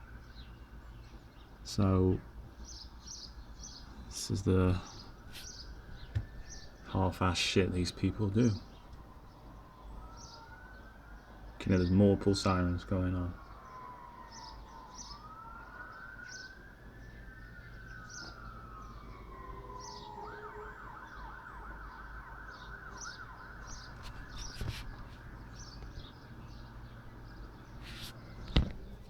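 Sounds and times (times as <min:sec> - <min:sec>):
birds chirping: 0:00.0 - 0:29.0
fire engine sirens wailing: 0:01.6 - 0:29.0.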